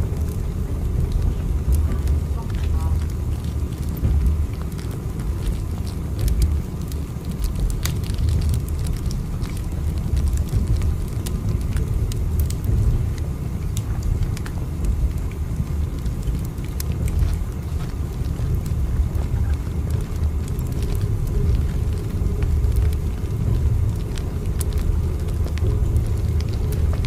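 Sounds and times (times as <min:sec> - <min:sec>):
faint clicks and crackles: 0:00.0 - 0:27.0
train rumbling inside carriage: 0:00.0 - 0:27.0.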